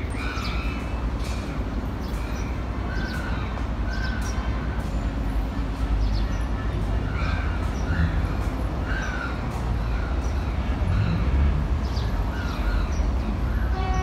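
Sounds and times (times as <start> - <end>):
low rumble of city noise: 0.0 - 14.0.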